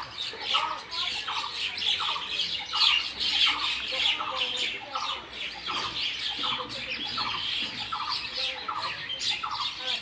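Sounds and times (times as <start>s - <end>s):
small birds chattering and squawking: 0.0s - 10.0s.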